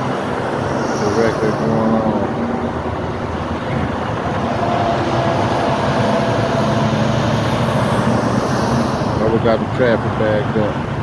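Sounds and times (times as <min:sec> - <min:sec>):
highway traffic rumble: 0:00.0 - 0:11.0
low hum: 0:00.0 - 0:11.0.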